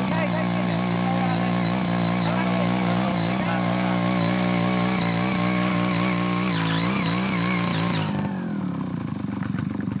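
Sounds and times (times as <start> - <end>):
garden tiller engine running: 0.0 - 10.0.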